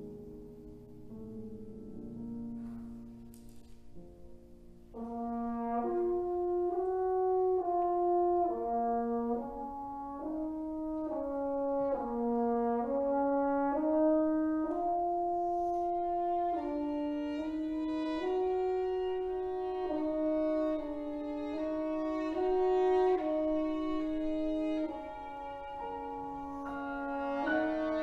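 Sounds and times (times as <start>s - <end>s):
french horn melody: 4.8s - 28.0s.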